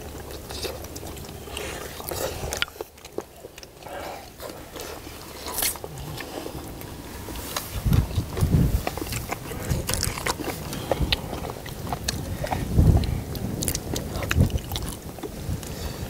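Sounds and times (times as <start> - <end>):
people chewing: 0.0 - 16.0.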